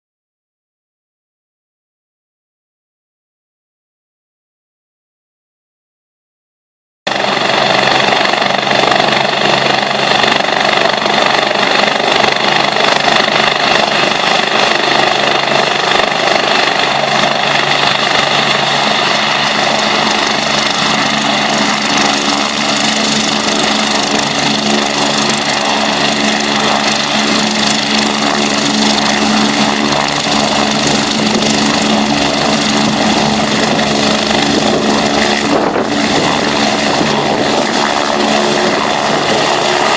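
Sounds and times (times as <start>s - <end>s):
helicopter turbine and rotor: 7.1s - 39.9s.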